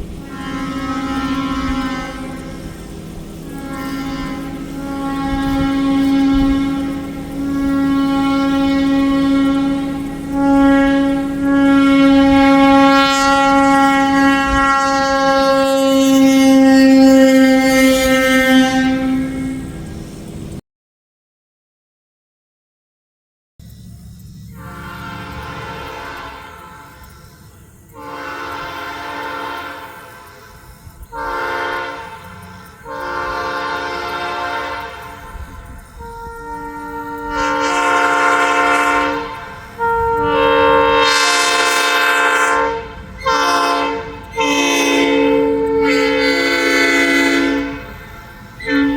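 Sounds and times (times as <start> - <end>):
locomotive air horn blast: 0.0 - 20.6, 24.5 - 48.9.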